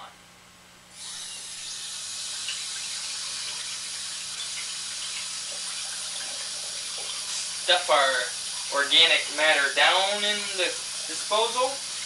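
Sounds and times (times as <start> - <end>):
water running into sink: 1.0 - 12.0.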